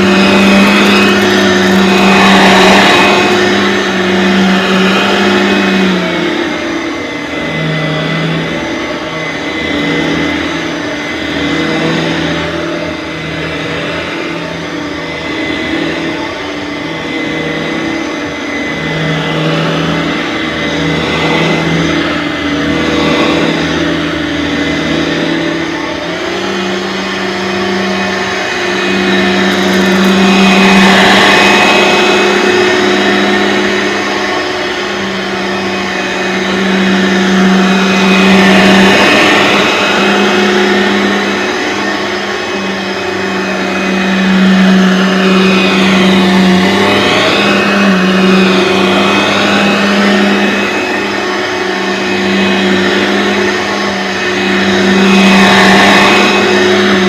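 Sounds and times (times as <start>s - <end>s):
vacuum cleaner motor running: 0.0s - 57.0s.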